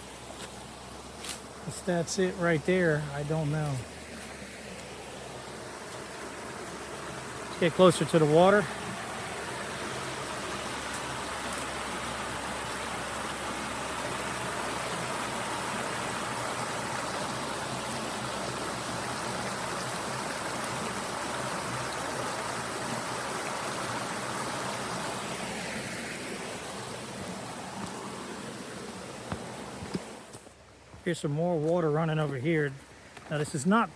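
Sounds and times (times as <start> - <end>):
creek water rushing: 0.0 - 33.9.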